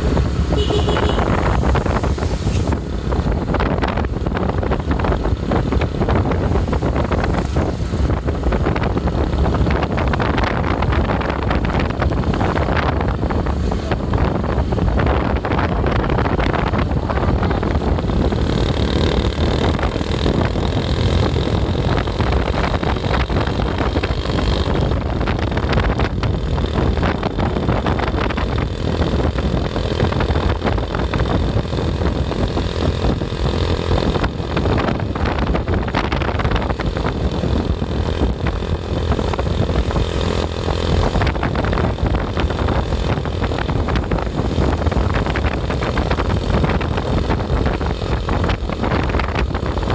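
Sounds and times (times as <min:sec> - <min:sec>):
road and engine noise: 0:00.0 - 0:49.9
wind buffeting microphone: 0:00.0 - 0:49.9.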